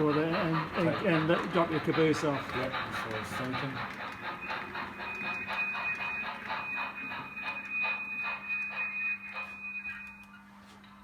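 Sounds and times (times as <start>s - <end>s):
wheels clicking on track: 0.0s - 10.4s
model train whine: 0.0s - 11.0s.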